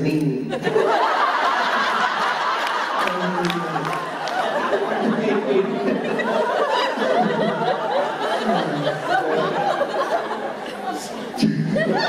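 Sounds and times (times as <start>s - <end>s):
large audience laughing: 0.5s - 12.0s.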